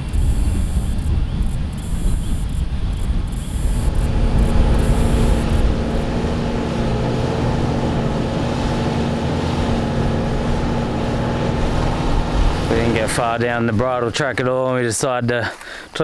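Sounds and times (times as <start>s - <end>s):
car engine climbing hill: 0.0s - 14.1s.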